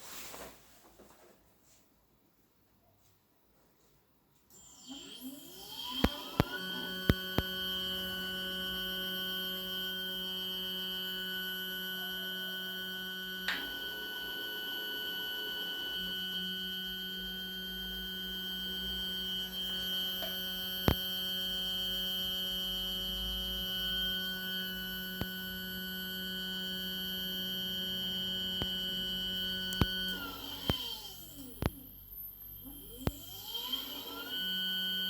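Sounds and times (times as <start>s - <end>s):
stepper motor electrical whine: 4.5s - 35.0s.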